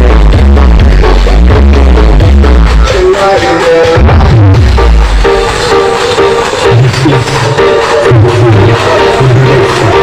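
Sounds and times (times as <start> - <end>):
electronic dance music with deep bass: 0.0 - 10.0.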